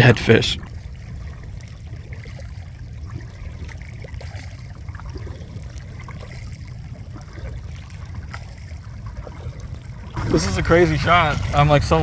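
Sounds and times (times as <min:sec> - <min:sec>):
steady low rumble: 0:00.0 - 0:12.0
water lapping at hull: 0:00.0 - 0:12.0
water trickling and dripping: 0:00.0 - 0:12.0.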